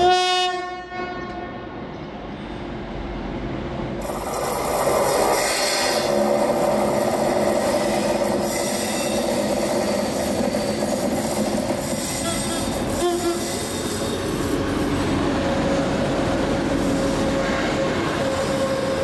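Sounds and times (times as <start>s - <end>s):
train wheels rumbling on track: 1.0s - 19.0s.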